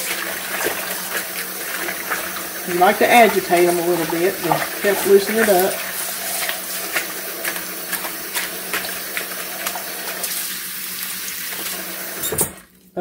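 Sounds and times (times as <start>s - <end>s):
hand swishing greens in water: 0.0s - 10.5s.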